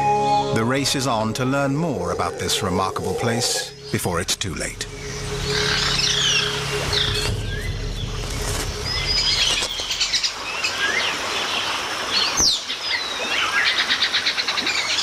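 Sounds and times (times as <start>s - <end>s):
birds calling and whistling: 1.2s - 15.0s.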